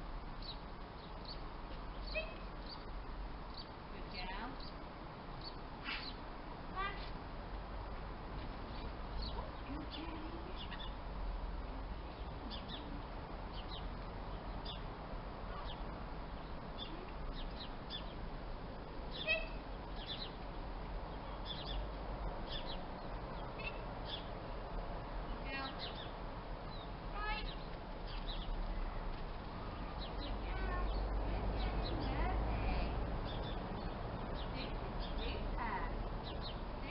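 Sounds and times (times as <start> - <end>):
small birds chirping: 0.0 - 36.9
steady background hiss: 0.0 - 36.9.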